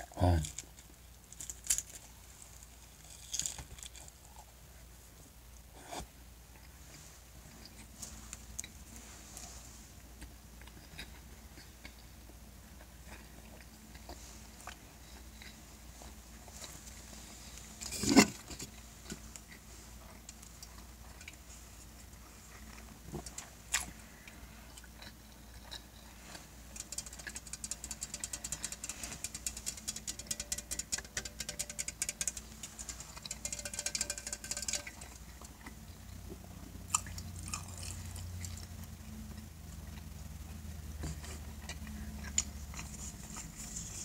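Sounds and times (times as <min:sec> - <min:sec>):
person chewing food: 0:00.0 - 0:04.7, 0:05.6 - 0:44.0.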